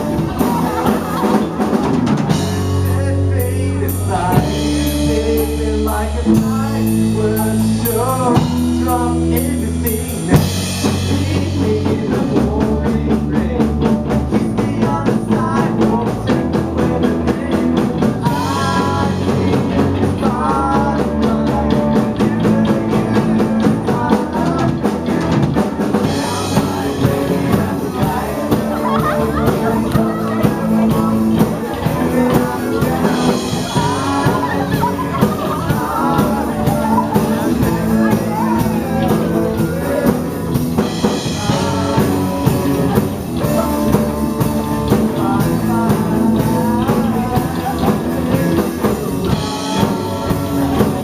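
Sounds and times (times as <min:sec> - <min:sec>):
bass notes: 0:00.0 - 0:51.0
drums beating fast: 0:00.0 - 0:51.0
live rock band playing: 0:00.0 - 0:51.0
person singing: 0:00.0 - 0:51.0.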